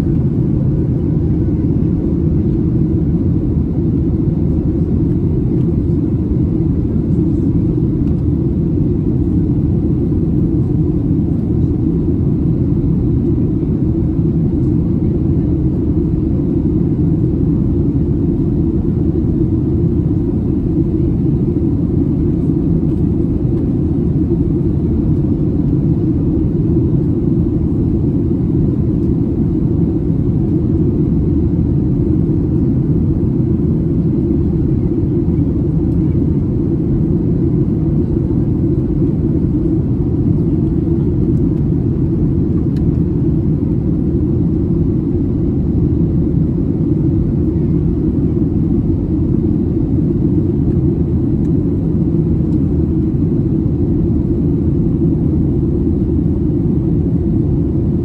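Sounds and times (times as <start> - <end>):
jet engine low rumble: 0.0 - 58.0.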